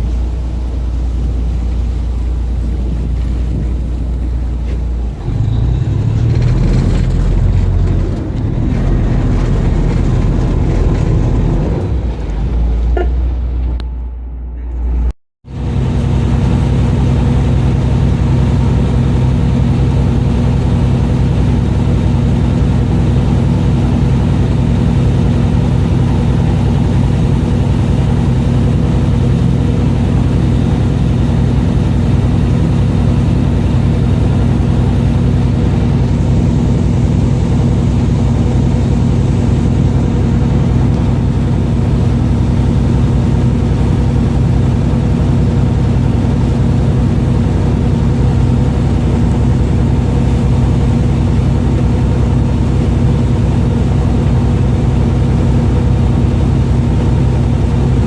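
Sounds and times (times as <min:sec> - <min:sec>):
boat engine humming: 0:00.0 - 0:58.0.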